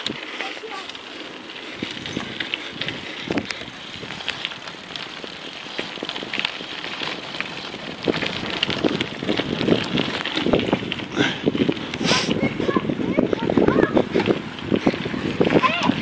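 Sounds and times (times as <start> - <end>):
bike rattling: 0.0 - 16.0
bike tyres crunching on gravel: 0.0 - 16.0.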